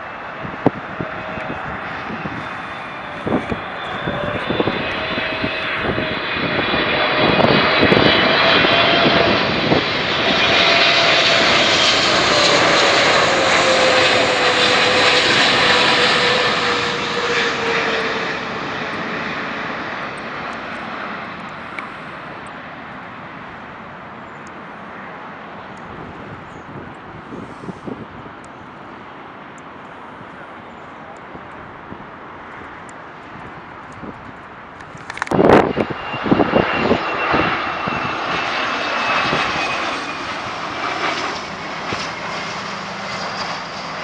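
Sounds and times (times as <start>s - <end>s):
jet airliner passing overhead: 0.0s - 44.0s.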